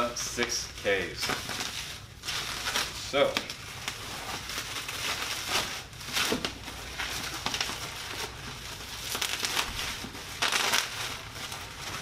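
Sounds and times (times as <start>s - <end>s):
bubble wrap and plastic crinkling: 0.0s - 12.0s.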